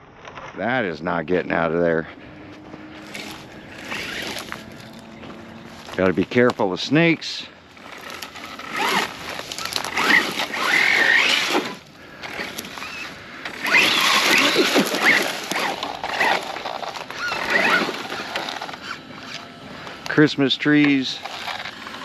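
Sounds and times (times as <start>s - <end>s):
dry grass rustling underfoot: 1.9s - 20.0s.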